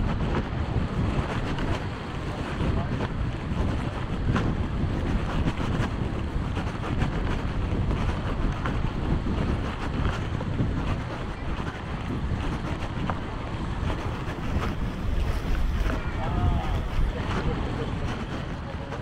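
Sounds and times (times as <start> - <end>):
sea waves on shore: 0.0 - 19.0
wind buffeting microphone: 0.0 - 19.0.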